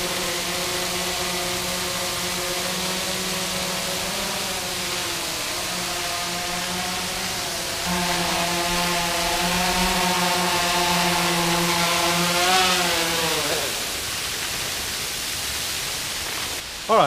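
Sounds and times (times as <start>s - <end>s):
drone propellers buzzing: 0.0s - 15.2s.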